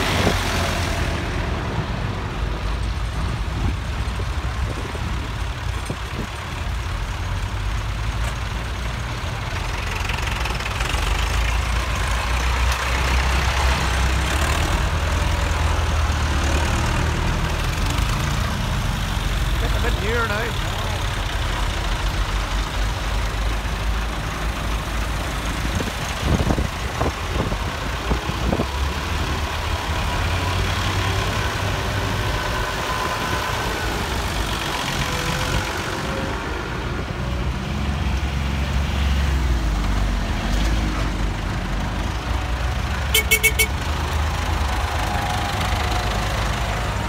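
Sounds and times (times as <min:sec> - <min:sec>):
tractor diesel engines running: 0:00.0 - 0:47.0.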